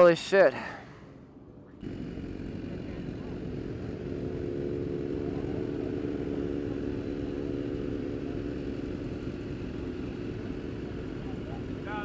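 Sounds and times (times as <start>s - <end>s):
motorcycle engine running steadily: 1.0s - 12.0s.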